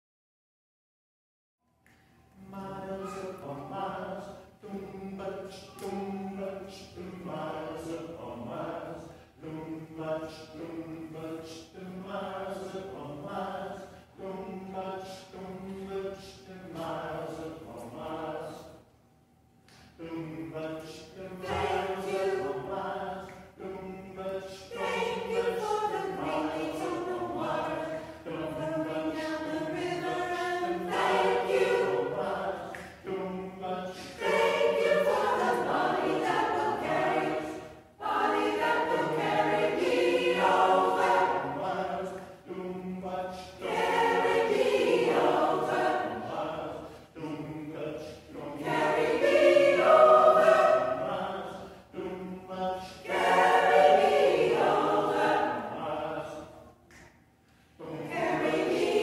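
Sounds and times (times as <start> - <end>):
choir singing a cappella: 2.3 - 18.9, 19.7 - 59.0.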